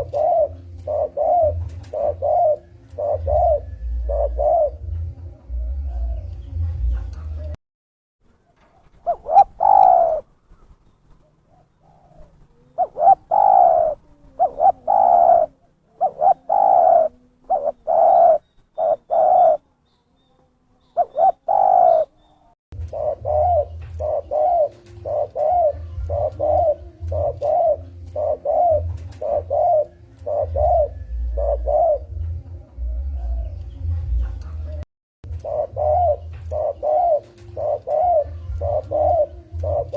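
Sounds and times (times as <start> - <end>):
dove cooing: 0.0 - 7.6, 8.5 - 39.9.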